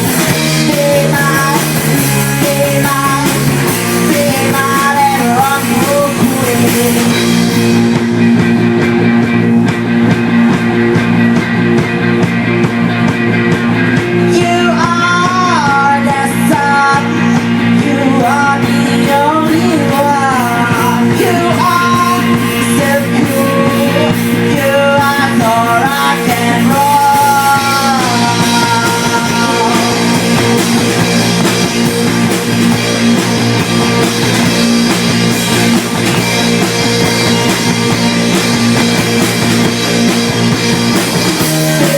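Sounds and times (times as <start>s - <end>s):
bending electric guitar lead melody: 0.0s - 41.9s
loud rock music: 0.0s - 41.9s.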